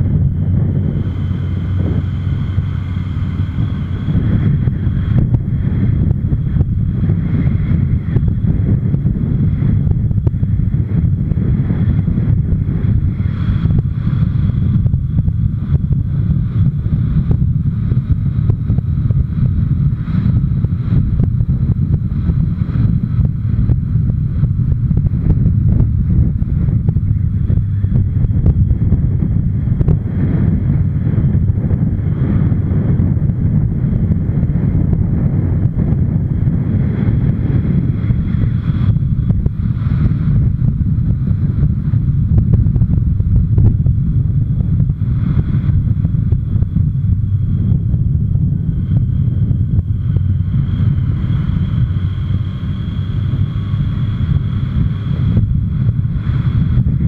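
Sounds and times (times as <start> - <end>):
motorcycle running: 0.0 - 57.0
wind buffeting microphone: 0.0 - 57.0.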